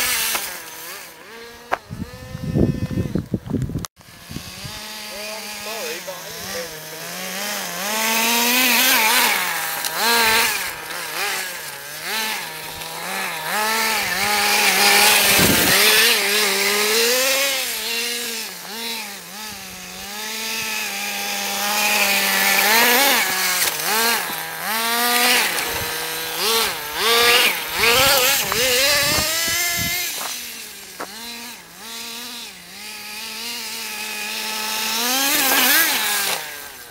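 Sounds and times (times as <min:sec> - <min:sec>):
model engine revving and idling: 0:00.0 - 0:36.9.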